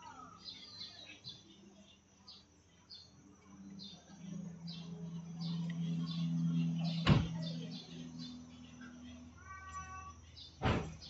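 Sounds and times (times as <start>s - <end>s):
small bird chirping: 0.0s - 11.0s
steady low hum: 0.0s - 11.0s.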